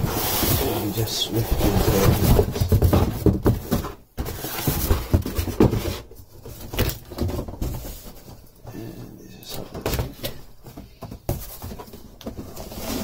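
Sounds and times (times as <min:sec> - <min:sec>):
cardboard packing scraping and knocking: 0:00.0 - 0:08.6, 0:09.6 - 0:13.0.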